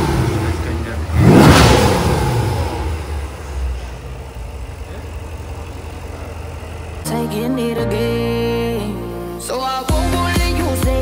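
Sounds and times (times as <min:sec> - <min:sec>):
car engine: 0:00.0 - 0:11.0.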